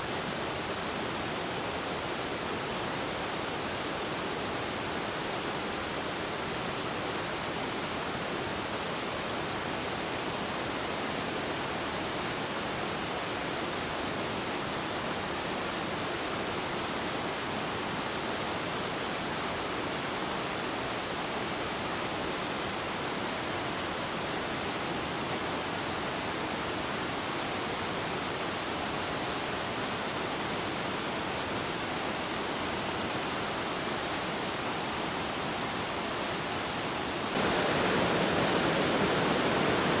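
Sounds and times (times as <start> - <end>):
creek rushing over boulders: 0.0 - 40.0.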